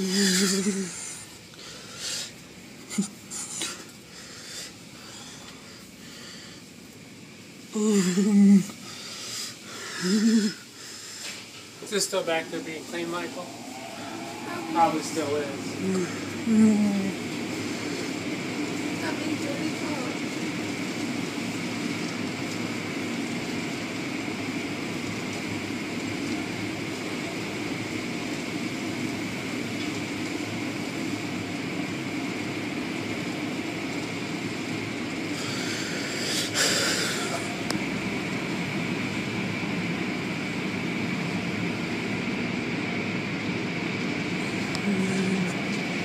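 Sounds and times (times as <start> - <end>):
car wash machinery rumbling: 0.0 - 46.0.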